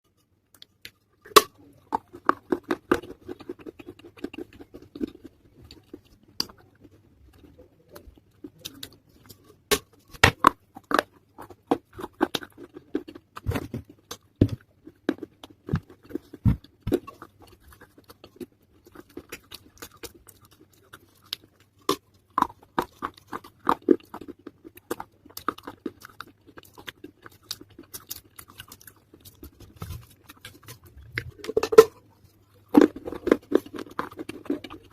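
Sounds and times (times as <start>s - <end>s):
crunching and chewing clay pot: 0.0s - 34.9s.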